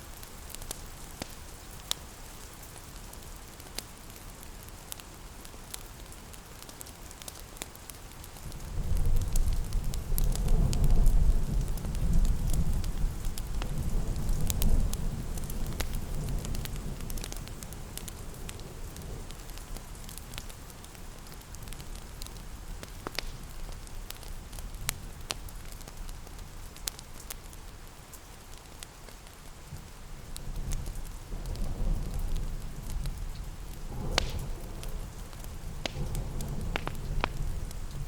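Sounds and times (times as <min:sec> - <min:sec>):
steady rain: 0:00.0 - 0:38.0
wood fire crackling: 0:00.0 - 0:38.0.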